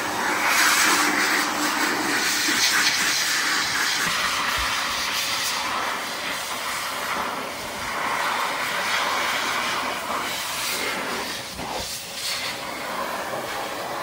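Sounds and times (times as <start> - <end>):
pet blower dryer hissing: 0.0 - 14.0.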